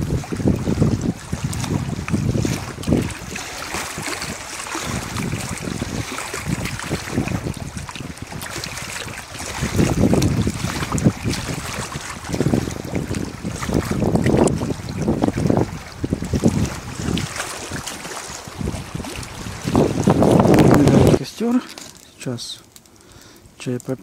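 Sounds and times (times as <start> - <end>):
wind on microphone: 0.0 - 21.7
waves lapping against rocks: 0.0 - 24.0.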